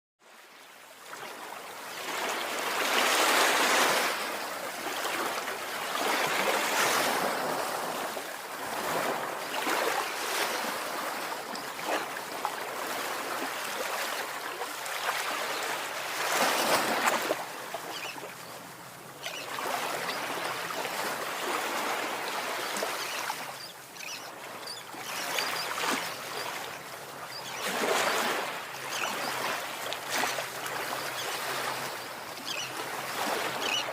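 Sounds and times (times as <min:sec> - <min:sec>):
ocean waves breaking: 0:01.0 - 0:33.9.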